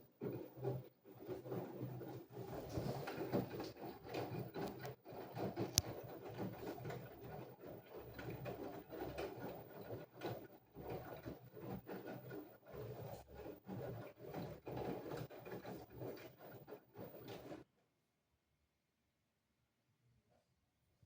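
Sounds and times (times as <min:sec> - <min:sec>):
washing machine drum sloshing: 0:00.0 - 0:17.6.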